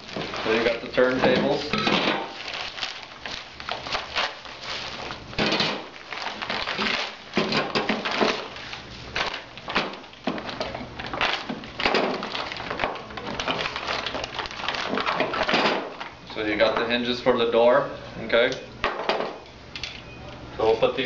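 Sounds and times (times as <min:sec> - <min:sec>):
packages rustling: 0:00.0 - 0:16.9.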